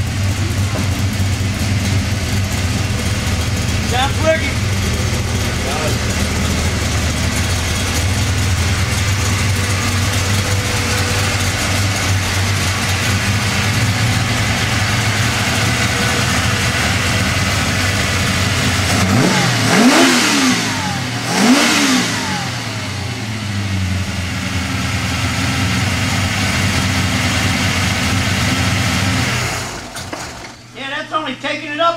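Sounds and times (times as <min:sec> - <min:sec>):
car engine idling and revving: 0:00.0 - 0:30.7.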